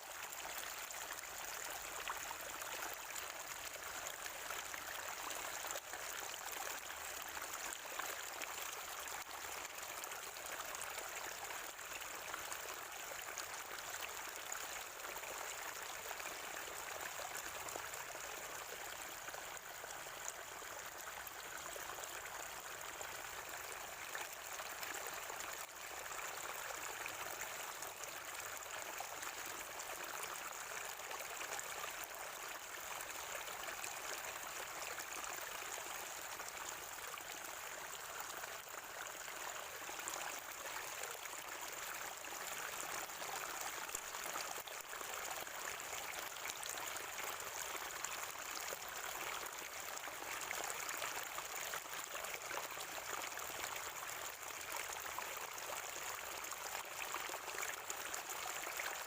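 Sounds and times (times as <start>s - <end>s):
spring water gurgling and splashing: 0.0s - 59.0s.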